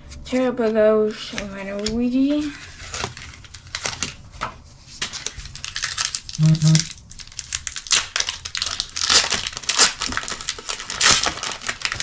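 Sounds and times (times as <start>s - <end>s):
foil wrapper crinkling: 2.3s - 12.0s.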